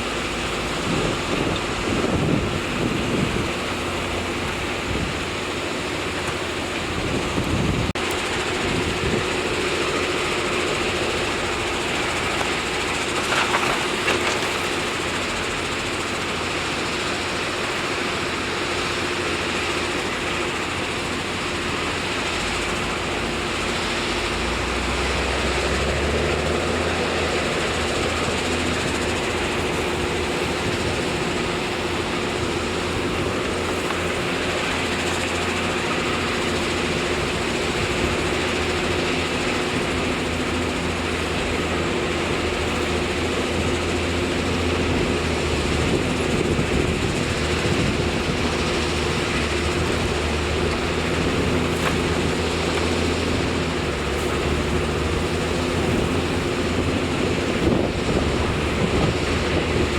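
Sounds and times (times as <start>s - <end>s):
constant whine: 0.0s - 59.9s
diesel machinery rumble: 0.0s - 59.9s.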